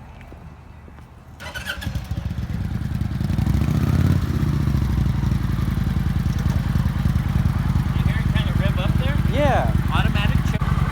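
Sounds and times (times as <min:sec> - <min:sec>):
motorcycle engine starting and idling: 0:01.4 - 0:10.9.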